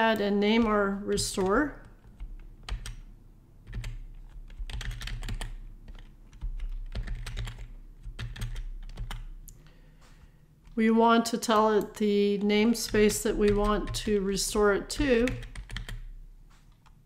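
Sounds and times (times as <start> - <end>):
computer keyboard typing: 0.0 - 10.8, 11.4 - 17.0.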